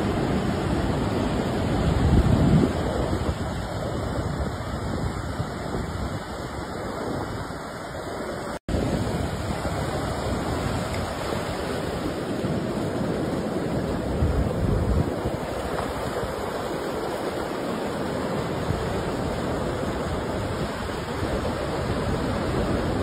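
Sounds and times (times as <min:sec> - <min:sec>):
ocean surf breaking on beach: 0:00.0 - 0:23.0
wind on microphone: 0:00.0 - 0:23.0.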